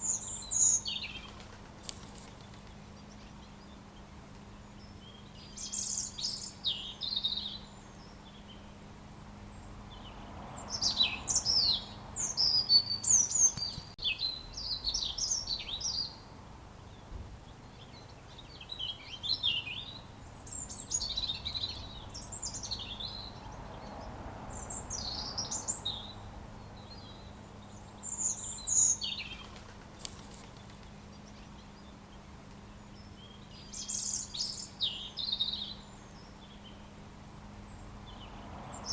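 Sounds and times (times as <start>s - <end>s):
robin singing: 0.0s - 8.8s, 9.5s - 38.9s.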